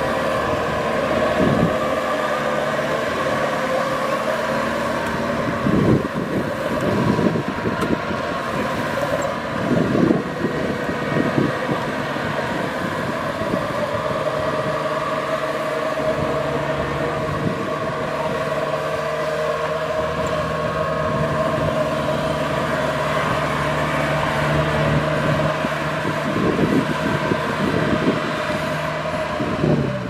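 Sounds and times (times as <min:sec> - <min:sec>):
combine harvester engine hum: 0:00.0 - 0:30.0.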